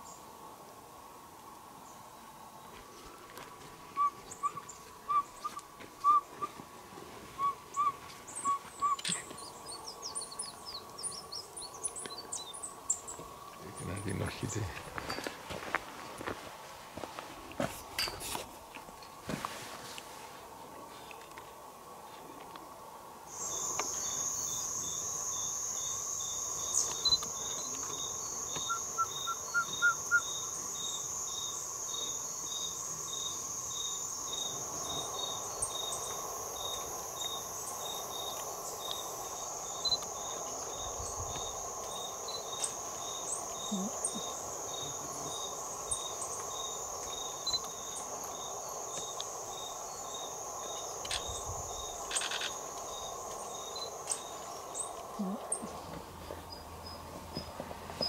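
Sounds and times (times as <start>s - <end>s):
insect chirping: 0.0s - 19.2s, 20.4s - 58.0s
insects trilling: 1.8s - 19.2s, 20.4s - 58.0s.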